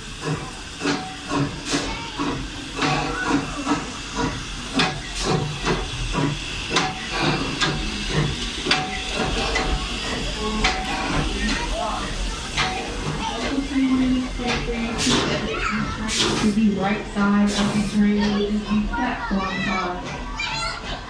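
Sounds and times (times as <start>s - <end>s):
train clicks and clatter: 0.0s - 21.0s
train hissing: 0.0s - 21.0s.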